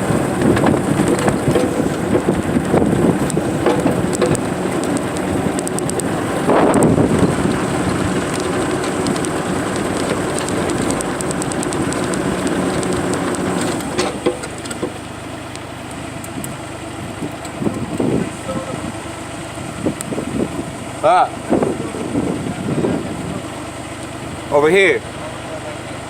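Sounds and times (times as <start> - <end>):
excavator engine and hydraulics: 0.0 - 26.0.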